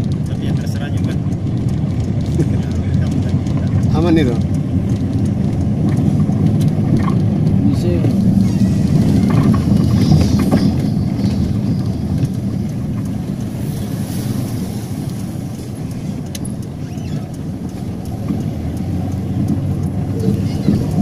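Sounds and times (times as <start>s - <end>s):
car rumbling on dirt road: 0.0s - 21.0s.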